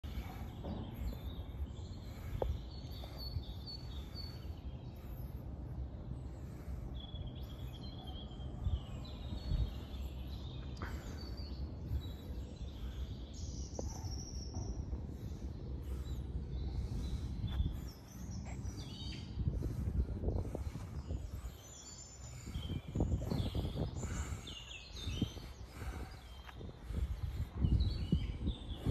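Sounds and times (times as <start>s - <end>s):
low background rumble: 0.0s - 28.9s
songbirds chirping: 0.0s - 28.9s.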